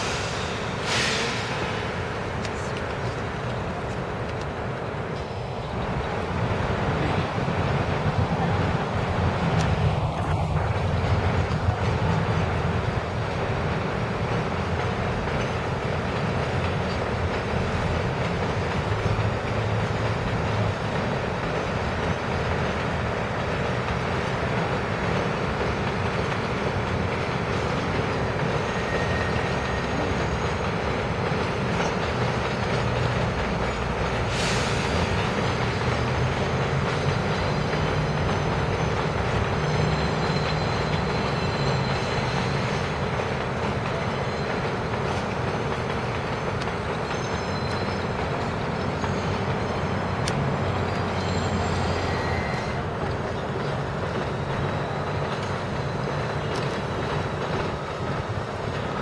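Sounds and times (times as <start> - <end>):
subway train rumbling on track: 0.0 - 59.0.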